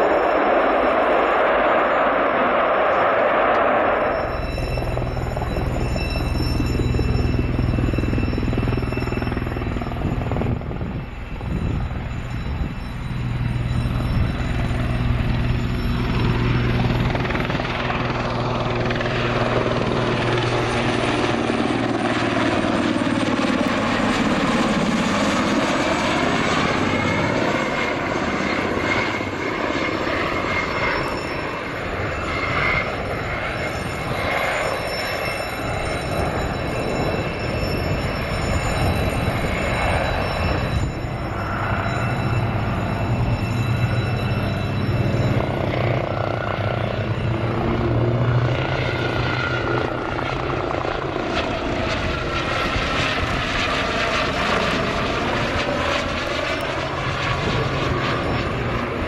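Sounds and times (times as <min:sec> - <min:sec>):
helicopter rotor drone: 0:00.0 - 0:59.0.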